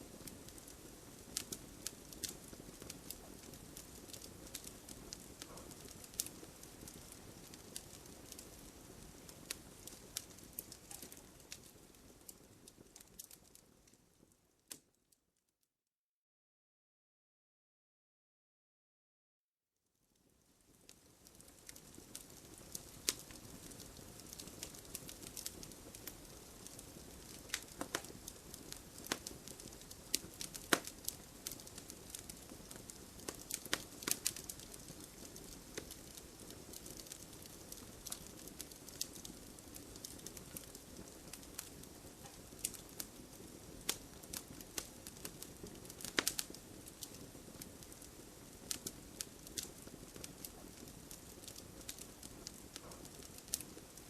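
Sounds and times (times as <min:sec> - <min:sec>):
wood fire crackling: 0:00.0 - 0:15.1, 0:20.1 - 0:54.0.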